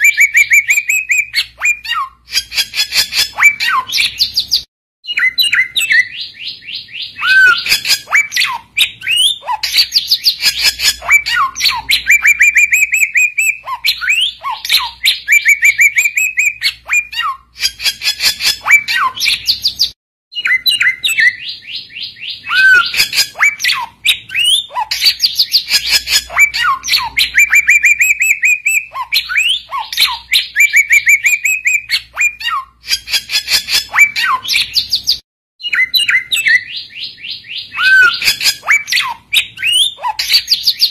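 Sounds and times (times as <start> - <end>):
bird chattering trills and whistles: 0.0 - 40.9.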